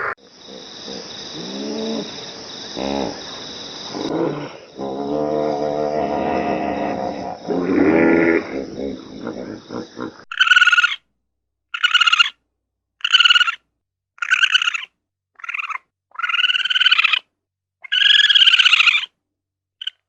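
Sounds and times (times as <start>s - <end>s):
animal calling nasally: 0.0s - 11.0s, 11.8s - 12.4s, 13.0s - 13.6s, 14.2s - 19.1s.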